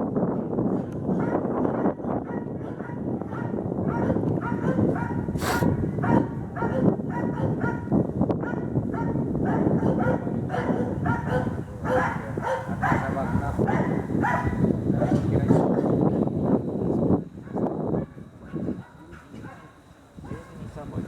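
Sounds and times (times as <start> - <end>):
dogs barking rapidly: 0.4 - 15.3, 17.4 - 20.8.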